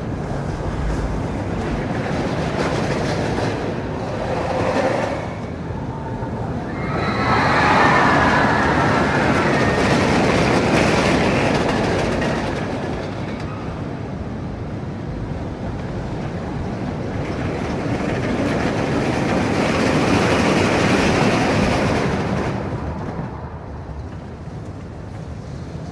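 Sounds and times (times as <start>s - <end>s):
roller coaster rumbling on track: 0.0s - 25.9s.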